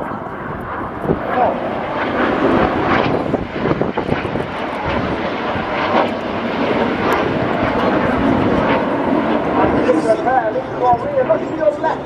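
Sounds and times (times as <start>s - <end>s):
jet engines roaring past: 0.0s - 12.0s.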